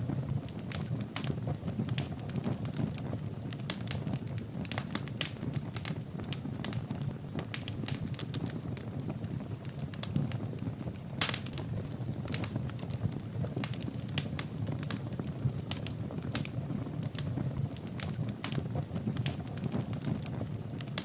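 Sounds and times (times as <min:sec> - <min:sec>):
burning wood crackling and popping: 0:00.0 - 0:21.0
fire flames rushing: 0:00.0 - 0:21.0.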